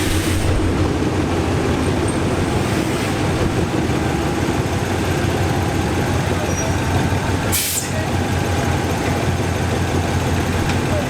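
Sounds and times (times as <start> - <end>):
diesel train rumbling: 0.0 - 11.0.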